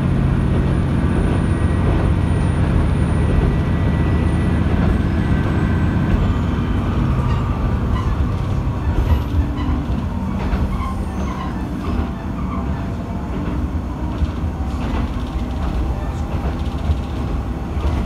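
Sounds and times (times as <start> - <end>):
diesel railcar engine rumble: 0.0 - 18.0
wheels on rails: 1.3 - 18.0.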